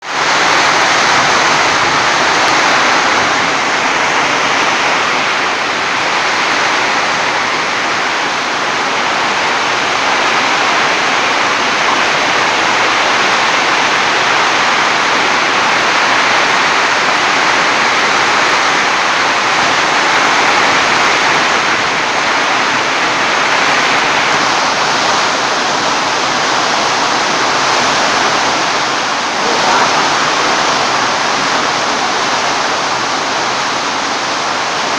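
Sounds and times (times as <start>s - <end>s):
heavy rain in strong wind: 0.0s - 34.9s.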